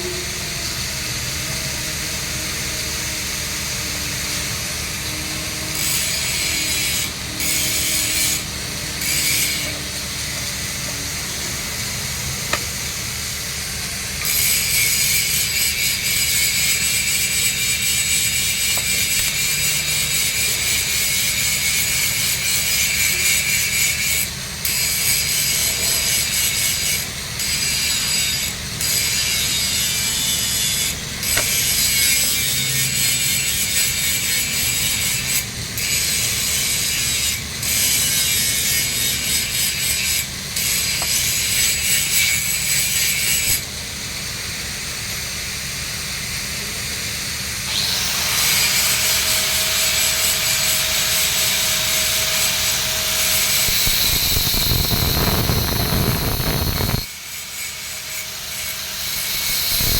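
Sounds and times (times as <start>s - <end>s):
welding arc crackling and hissing: 0.0s - 59.9s.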